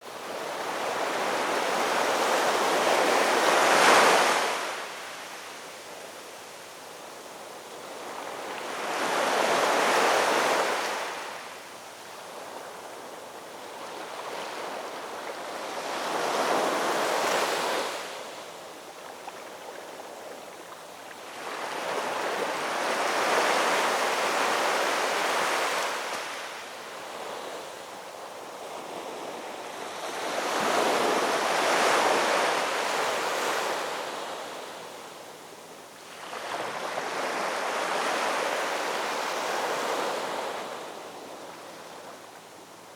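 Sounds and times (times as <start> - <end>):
ocean waves breaking on shore: 0.1 - 6.2, 6.9 - 42.9.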